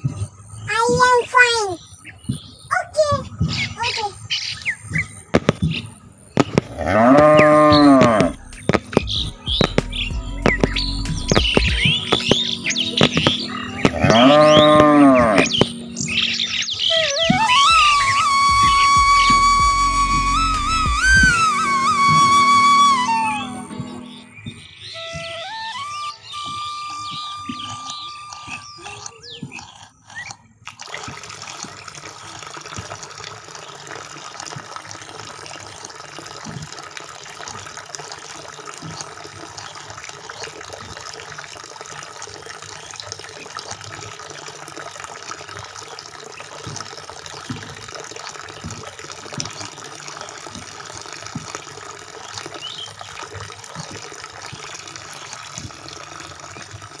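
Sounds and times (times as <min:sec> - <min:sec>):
small water splashes: 0:00.0 - 0:57.0
water pouring into basin: 0:03.0 - 0:57.0.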